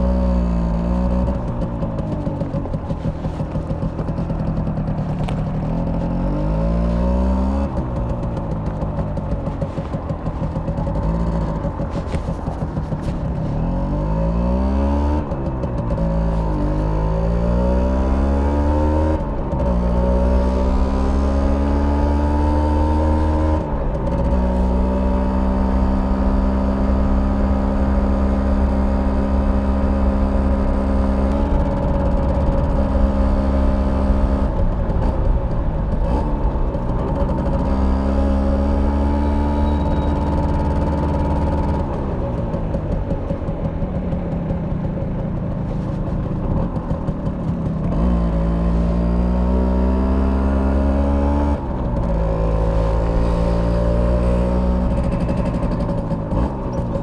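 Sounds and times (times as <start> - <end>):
two-stroke motorcycle engine running: 0.0 - 57.0.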